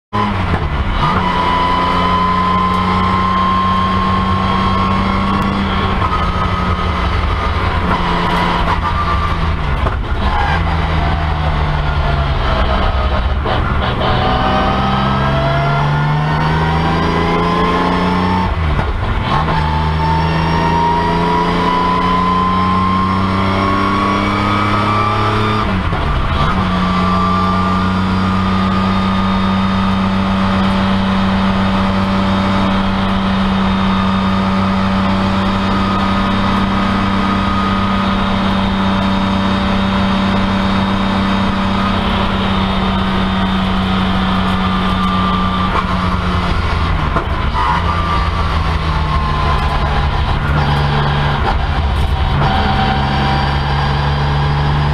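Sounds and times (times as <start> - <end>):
race car engine from inside cabin: 0.1 - 54.9.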